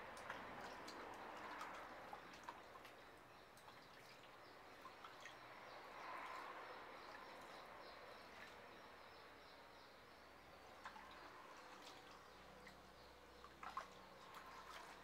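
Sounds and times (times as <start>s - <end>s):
small drip ticks: 0.0s - 8.9s, 10.7s - 15.0s
water trickling and dripping: 0.0s - 15.0s.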